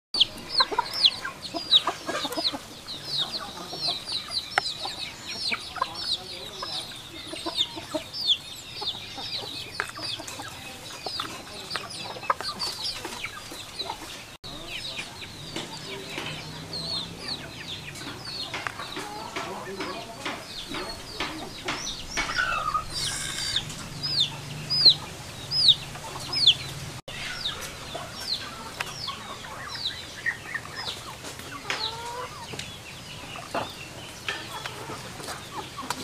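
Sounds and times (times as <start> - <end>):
birds cheeping: 0.2 - 36.0.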